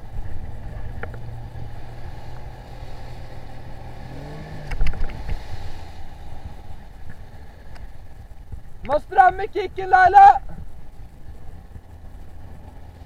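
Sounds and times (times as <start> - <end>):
outboard motor running: 0.0 - 13.0
water noise: 0.0 - 13.0
wind: 0.0 - 13.0.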